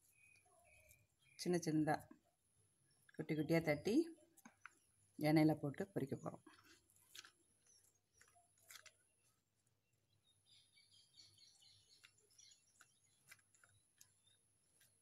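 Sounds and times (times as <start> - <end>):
faint bird chirps: 0.0 - 5.3, 7.5 - 15.0.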